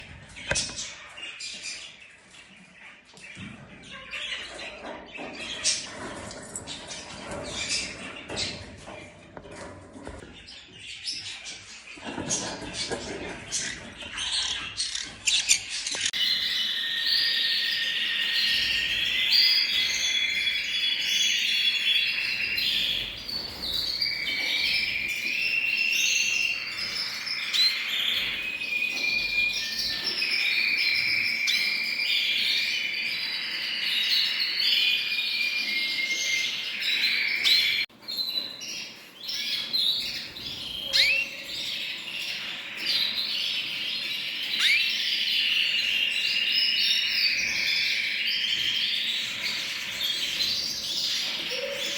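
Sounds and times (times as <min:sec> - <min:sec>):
songbirds chorus: 0:00.0 - 0:51.9.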